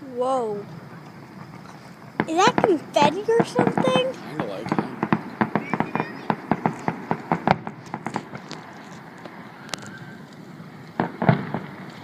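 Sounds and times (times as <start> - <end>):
fireworks crackling pops: 0.5 - 12.0.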